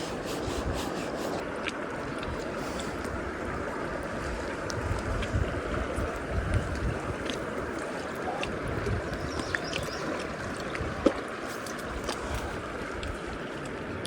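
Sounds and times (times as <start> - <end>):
river current rushing: 0.0 - 14.0.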